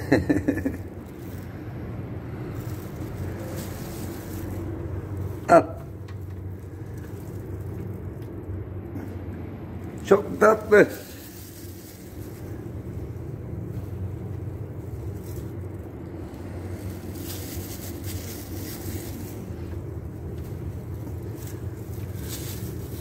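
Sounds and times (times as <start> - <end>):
low background rumble and hum: 0.0 - 23.0.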